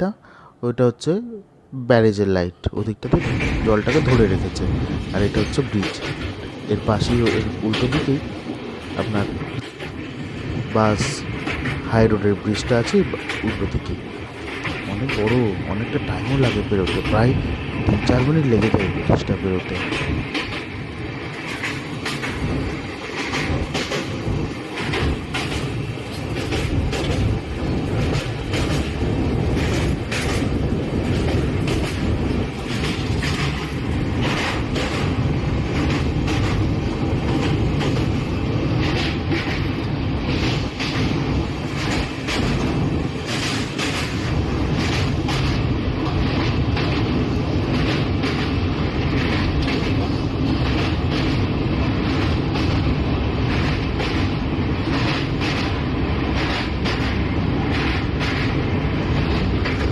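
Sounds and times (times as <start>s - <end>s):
train rumble: 2.4s - 59.9s
wheels clattering over rails: 3.1s - 59.9s.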